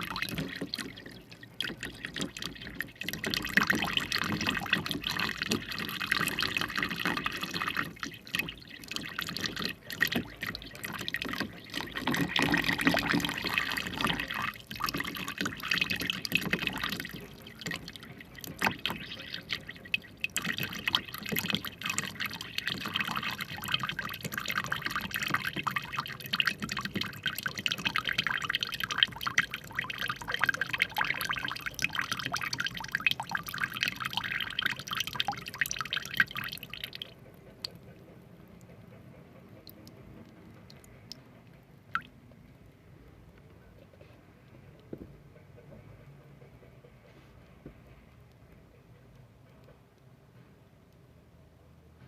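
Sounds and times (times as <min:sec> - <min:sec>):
water trickling and splashing: 0:00.0 - 0:42.2.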